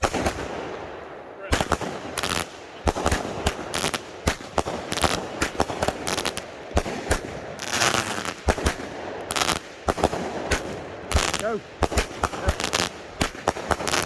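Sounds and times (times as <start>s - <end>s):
fireworks firing and crackling: 0.0s - 14.0s.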